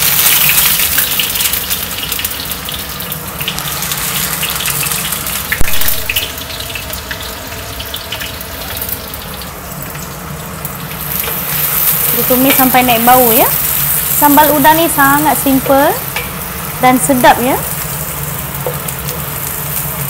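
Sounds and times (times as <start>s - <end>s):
shallots sizzling in oil: 0.0s - 20.0s.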